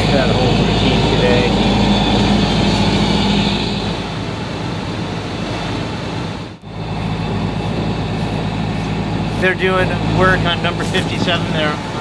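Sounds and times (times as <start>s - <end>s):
diesel engine humming: 0.0s - 12.0s
rushing wind and water: 0.0s - 12.0s.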